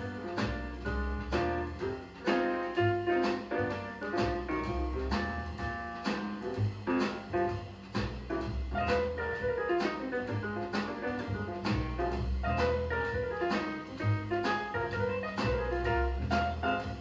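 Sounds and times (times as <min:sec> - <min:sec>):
jazz drums: 0:00.0 - 0:17.0
walking double bass: 0:00.0 - 0:17.0.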